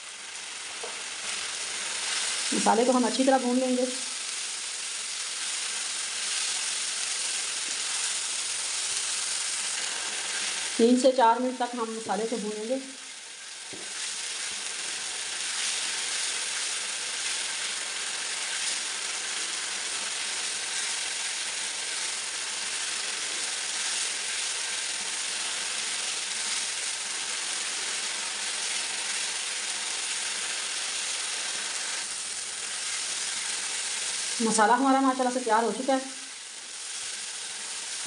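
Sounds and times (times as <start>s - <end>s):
spice paste sizzling in a frying pan: 0.0s - 38.0s.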